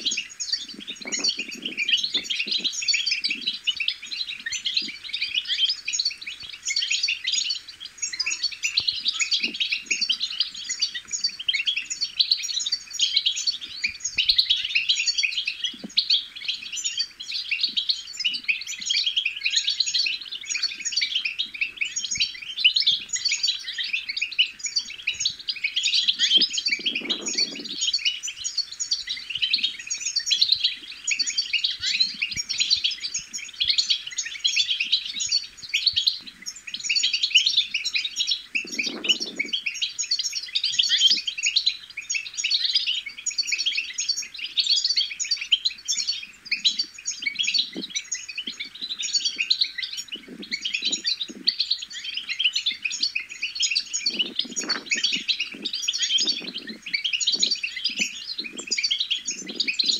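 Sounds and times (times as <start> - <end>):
goldfinch twittering: 0.0 - 59.9.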